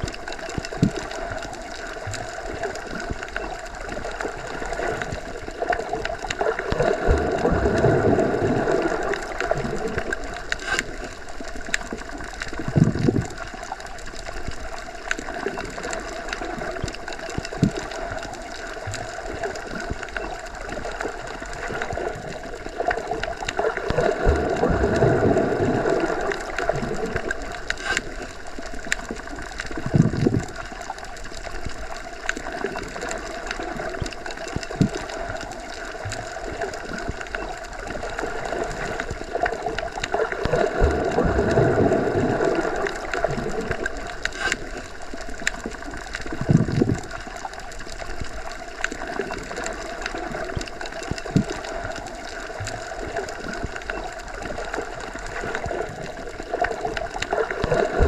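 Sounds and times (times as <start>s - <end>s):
clicks and gurgling: 0.0s - 58.0s
muffled underwater water rush: 0.0s - 58.0s.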